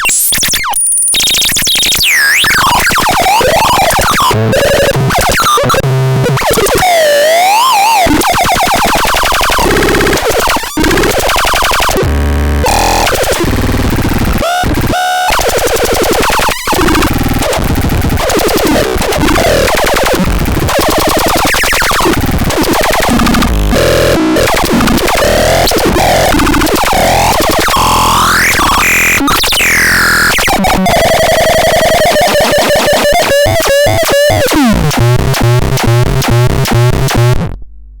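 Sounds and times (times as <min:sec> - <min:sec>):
synthesizer noisy electronic tones: 0:00.0 - 0:37.6.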